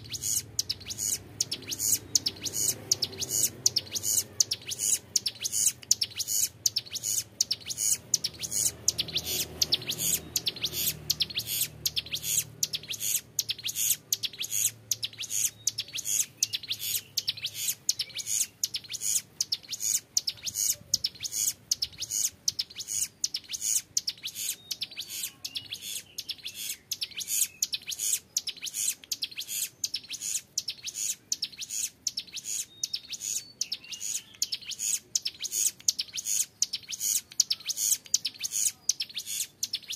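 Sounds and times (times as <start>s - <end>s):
bird singing high-pitched notes: 0.0s - 39.9s.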